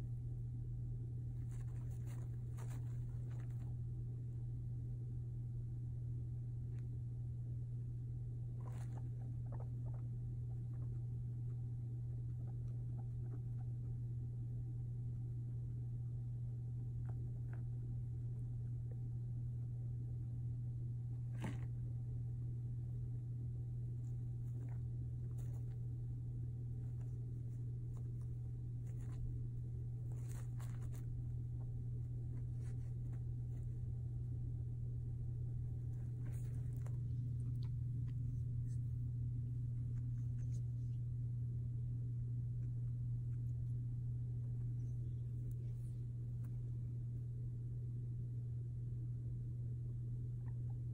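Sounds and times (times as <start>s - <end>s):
steady low hum: 0.0s - 50.9s
guinea pig moving in wire pen: 1.0s - 4.6s, 8.2s - 48.2s.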